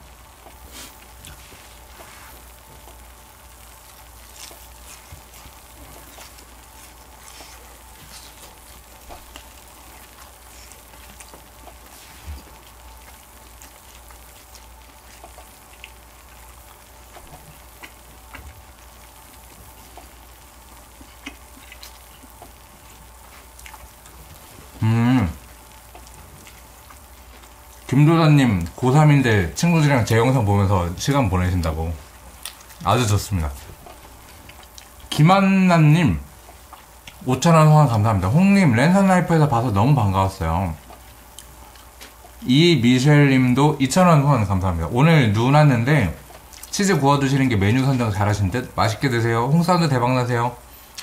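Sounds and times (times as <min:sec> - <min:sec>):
food sizzling on a grill plate: 0:00.0 - 0:44.3
light crackles: 0:00.1 - 0:44.0.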